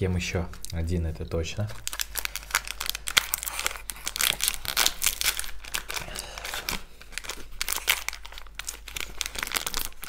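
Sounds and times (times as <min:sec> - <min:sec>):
plastic wrapper crinkling and tearing: 0:00.5 - 0:10.0.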